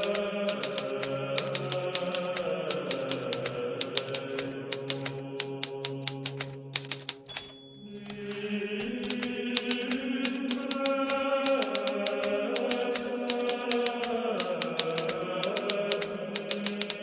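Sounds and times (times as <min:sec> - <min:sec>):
typewriter bell ringing: 0:00.0 - 0:17.0
typewriter keys striking: 0:00.0 - 0:17.0.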